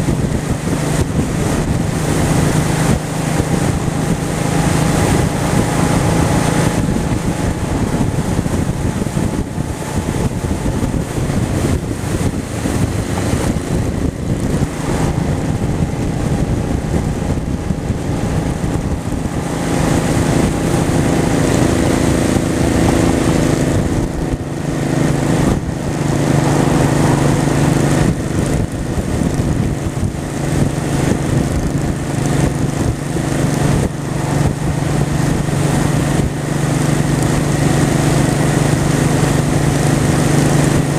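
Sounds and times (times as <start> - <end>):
motorcycle engine running: 0.0 - 40.9
road noise: 0.0 - 40.9
wind rushing: 0.0 - 40.9.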